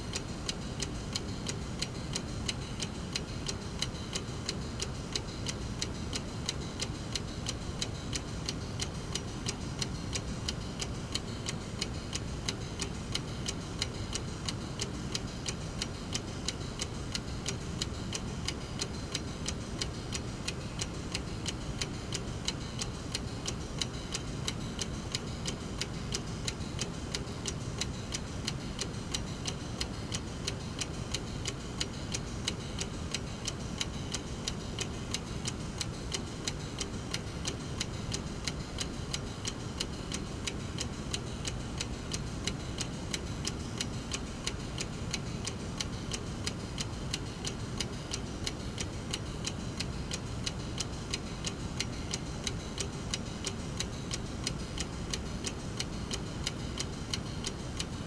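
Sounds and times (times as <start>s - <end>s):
mechanical clock ticking: 0.0s - 58.0s.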